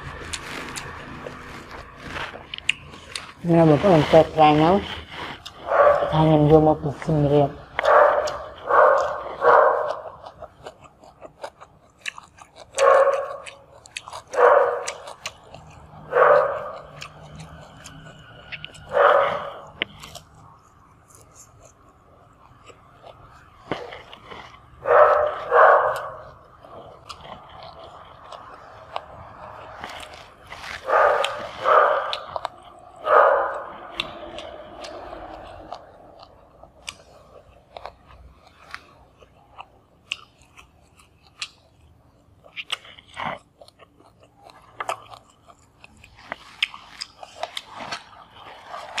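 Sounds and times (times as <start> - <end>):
chewing and crunching vegetables: 0.0 - 49.0
wet mouth sounds: 0.0 - 49.0.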